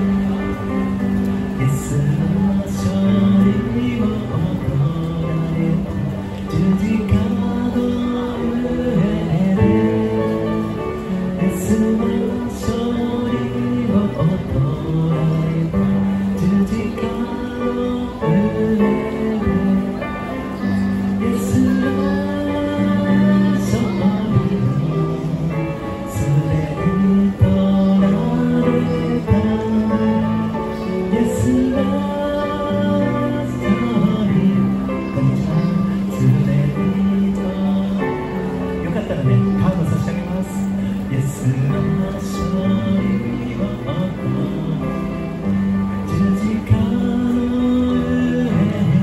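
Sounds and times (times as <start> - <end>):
electronic keyboard: 0.0 - 49.0
man singing worship song: 1.5 - 49.0.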